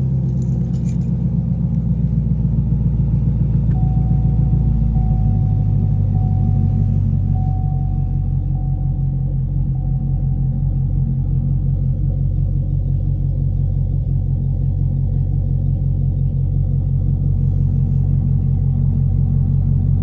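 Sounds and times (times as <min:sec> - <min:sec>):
car exhaust idling deep note: 0:00.0 - 0:20.0.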